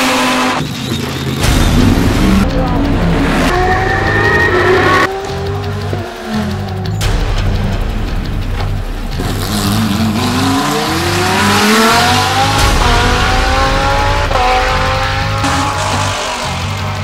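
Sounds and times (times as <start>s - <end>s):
race car engine accelerating: 0.0s - 7.0s, 9.2s - 17.0s.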